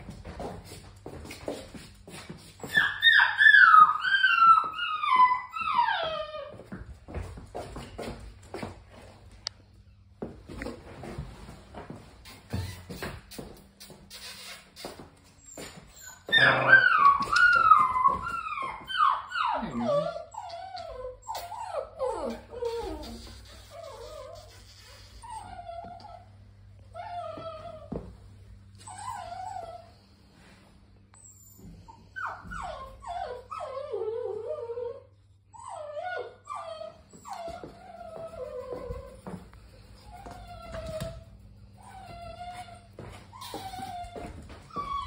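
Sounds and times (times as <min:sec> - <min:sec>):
puppy whining: 0:01.3 - 0:09.1, 0:10.6 - 0:45.0.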